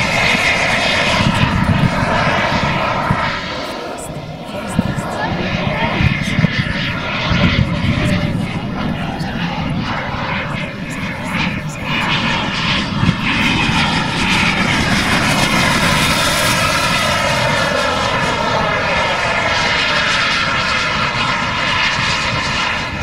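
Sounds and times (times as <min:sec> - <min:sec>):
model jet engines whining: 0:00.0 - 0:23.0
rushing rumble: 0:00.0 - 0:23.0.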